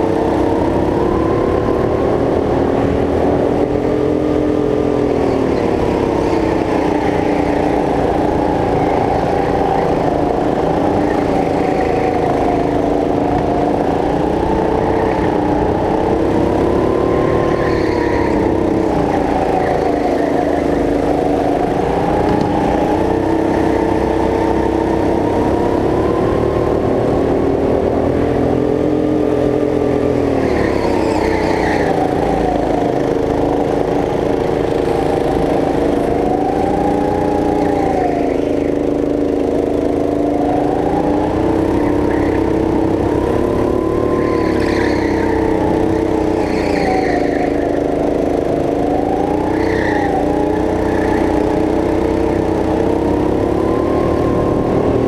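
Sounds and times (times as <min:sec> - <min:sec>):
go-kart motor running hard: 0:00.0 - 0:55.0.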